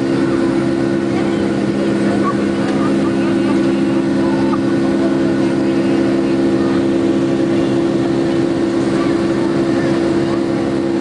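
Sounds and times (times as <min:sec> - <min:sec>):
jet engine hum: 0:00.0 - 0:11.0.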